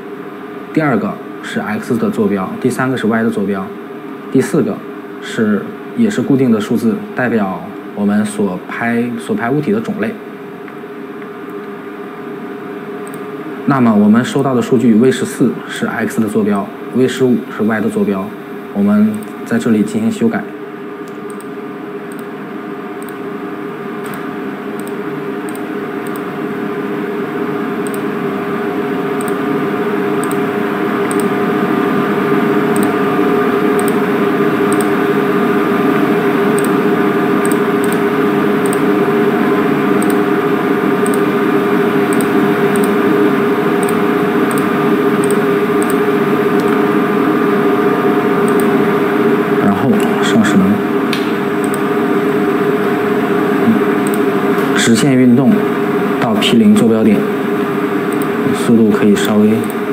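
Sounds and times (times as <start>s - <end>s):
mechanical hum with held tones: 0.0s - 59.9s.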